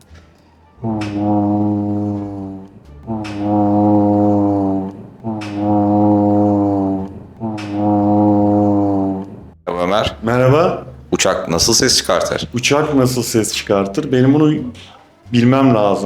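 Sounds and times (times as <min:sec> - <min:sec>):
deep horn note: 0:00.7 - 0:14.9.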